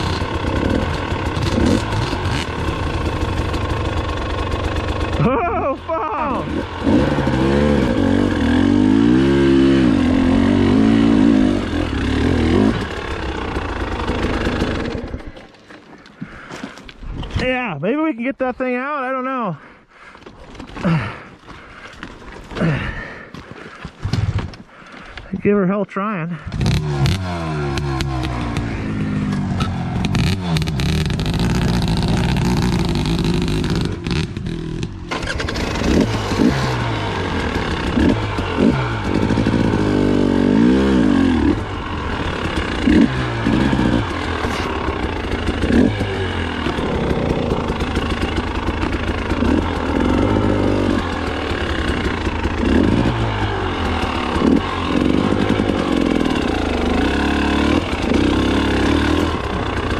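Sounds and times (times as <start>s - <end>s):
dirt bike engine revving: 0.0s - 15.5s, 26.3s - 59.9s.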